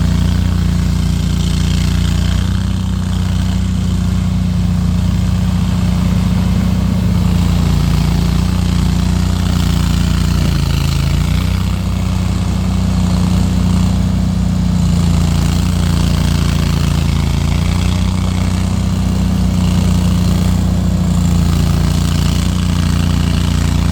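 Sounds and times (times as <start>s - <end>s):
mower engine running: 0.0s - 23.9s.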